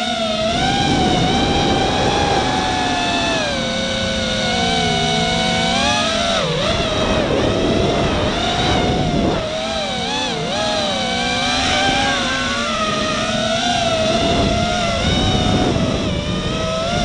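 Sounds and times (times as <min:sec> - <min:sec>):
drone motors whining: 0:00.0 - 0:17.0
rushing wind: 0:00.0 - 0:17.0.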